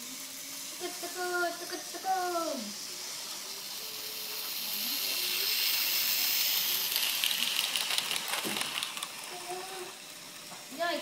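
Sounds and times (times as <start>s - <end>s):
model train motor hiss: 0.0s - 11.0s.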